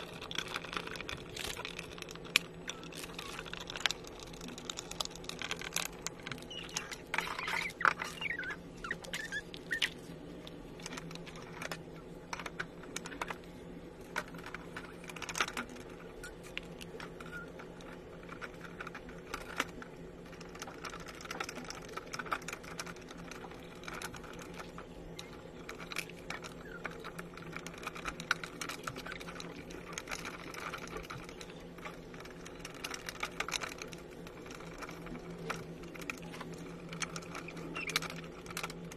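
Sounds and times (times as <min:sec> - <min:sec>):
faint steady hum: 0:00.0 - 0:38.9
wooden parts clicking and knocking: 0:00.0 - 0:38.9.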